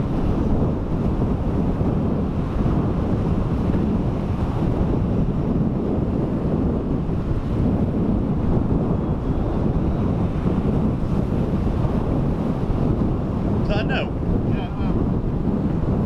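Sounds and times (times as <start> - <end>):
waves washing on shore: 0.0 - 16.0
wind buffeting microphone: 0.0 - 16.0.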